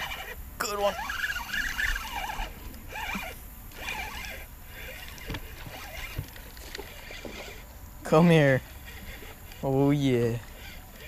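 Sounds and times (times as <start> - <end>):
spinning reel cranking: 0.0 - 11.0.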